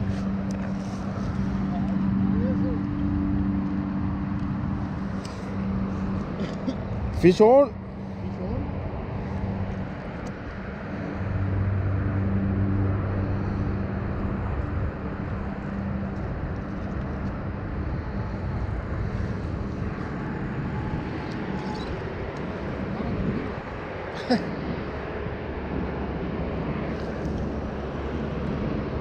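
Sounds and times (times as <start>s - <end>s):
low engine drone: 0.0s - 29.0s.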